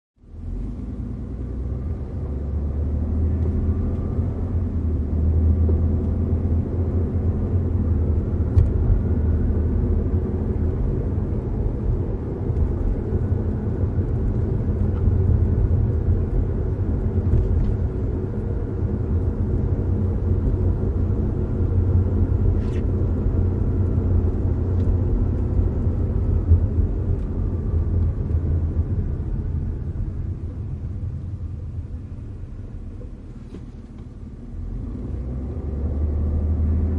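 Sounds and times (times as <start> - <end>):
car engine and road rumble: 0.2 - 36.9.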